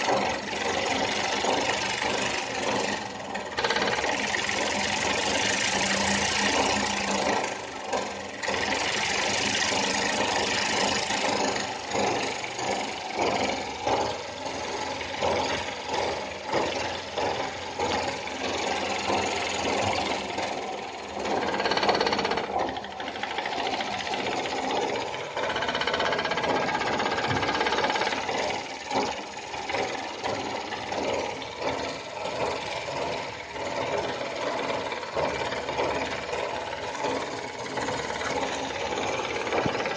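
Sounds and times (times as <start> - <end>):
steam engine knocking: 0.0 - 39.9.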